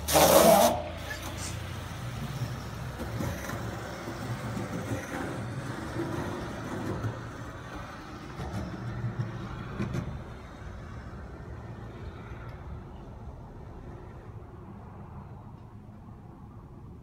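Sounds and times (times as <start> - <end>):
skateboard wheels rolling on concrete: 0.0 - 15.6.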